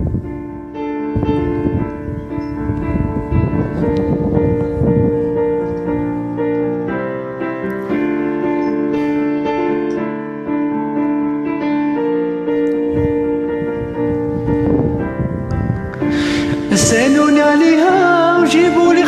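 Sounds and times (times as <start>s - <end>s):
electronic keyboard sustained chords: 0.0s - 19.0s.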